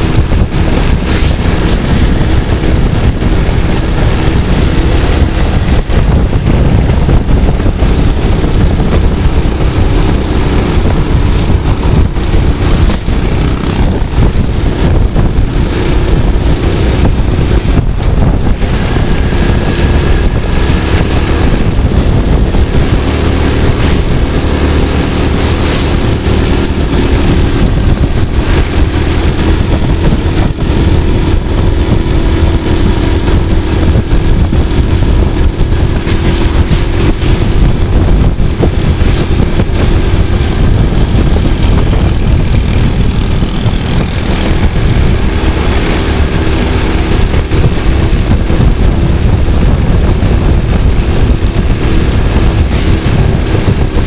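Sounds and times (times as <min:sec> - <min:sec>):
motorcycle engine drone: 0:00.0 - 0:54.0
wind buffeting microphone: 0:00.0 - 0:54.0.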